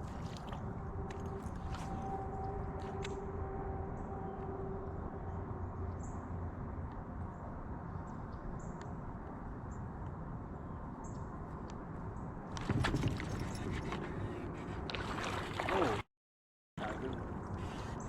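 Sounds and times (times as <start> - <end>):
water and wind noise: 0.0 - 16.1, 16.8 - 18.0.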